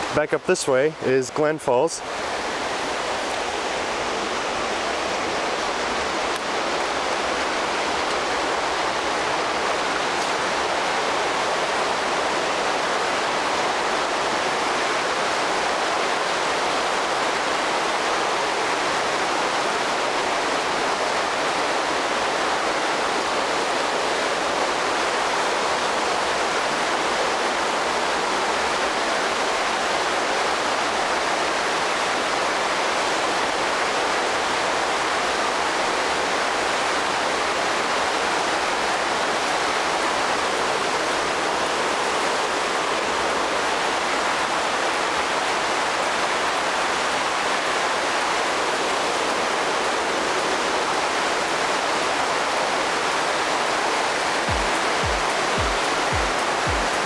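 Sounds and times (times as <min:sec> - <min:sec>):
stream water rushing through tunnel: 0:00.0 - 0:57.0.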